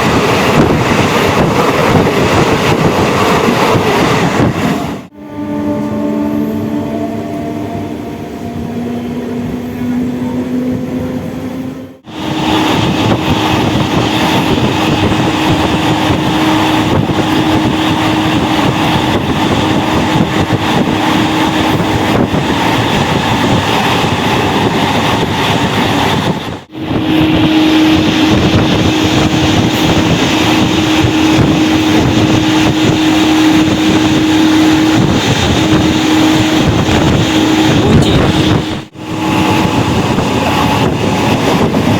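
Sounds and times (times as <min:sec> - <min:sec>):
electric train running at speed: 0:00.0 - 0:41.9.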